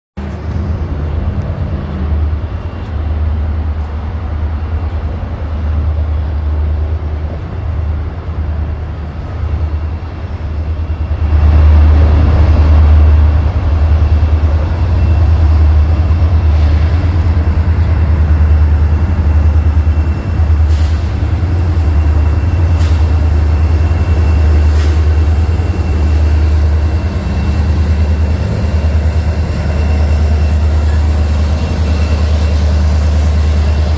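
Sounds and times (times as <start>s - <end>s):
diesel locomotive rumbling: 0.2s - 33.9s
train rolling noise: 0.2s - 33.9s.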